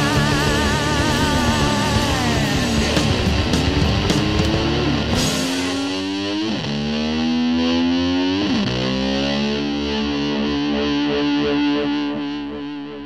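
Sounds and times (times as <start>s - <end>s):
distorted electric guitar: 0.0s - 13.0s.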